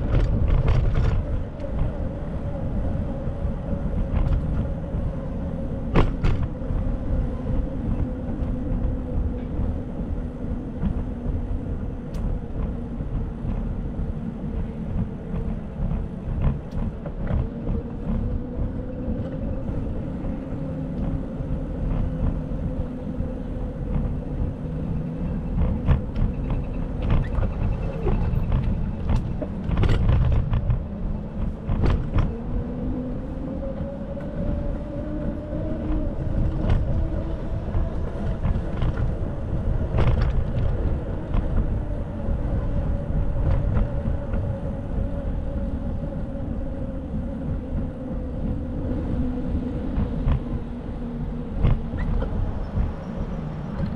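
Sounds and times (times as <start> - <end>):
road and wind rumble: 0.0 - 53.9.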